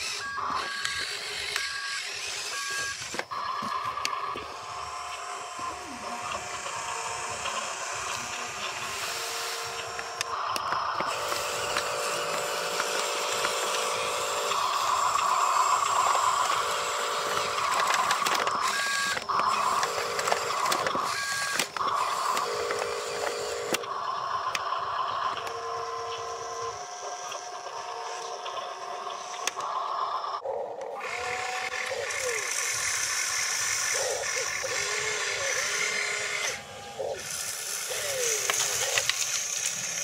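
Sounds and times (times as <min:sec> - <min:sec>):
small electric motor whining: 0:00.0 - 0:40.0.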